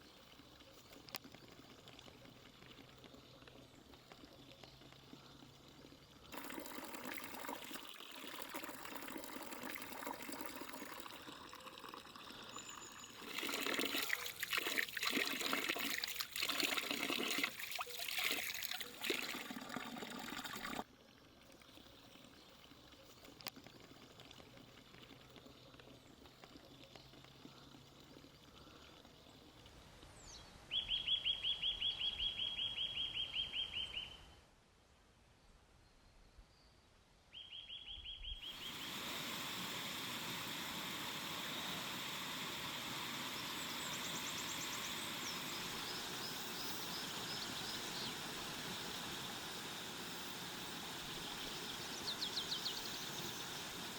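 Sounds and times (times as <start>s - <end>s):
water trickling and pouring: 0.0s - 30.2s, 38.5s - 53.9s.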